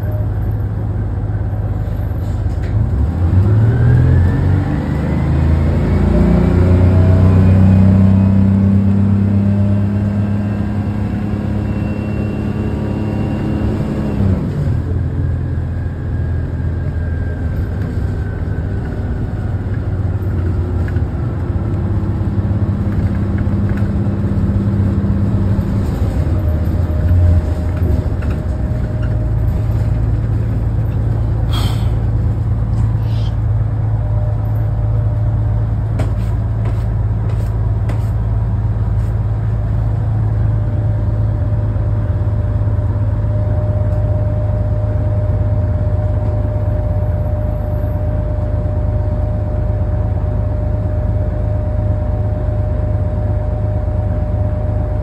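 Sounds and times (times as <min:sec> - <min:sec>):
bus engine hum and rumble: 0:00.0 - 0:55.0.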